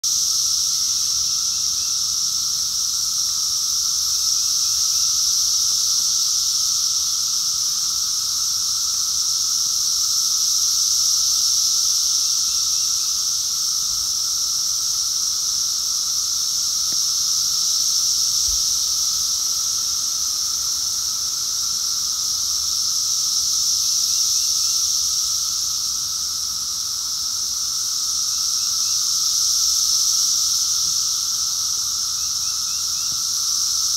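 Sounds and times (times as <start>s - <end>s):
cicadas high-pitched drone: 0.0s - 33.9s.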